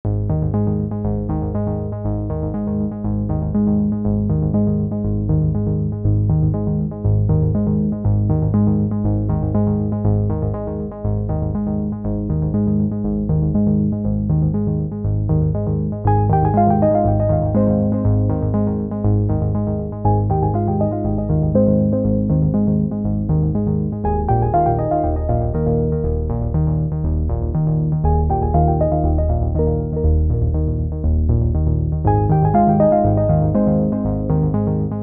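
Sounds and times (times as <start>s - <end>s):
synthesizer music with steady pulse: 0.1s - 35.0s.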